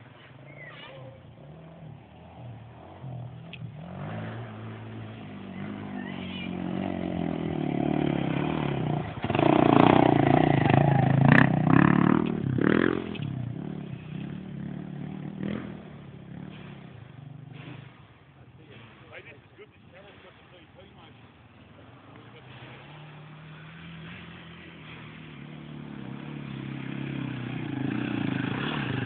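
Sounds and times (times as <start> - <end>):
dirt bike engine: 0.0 - 29.0.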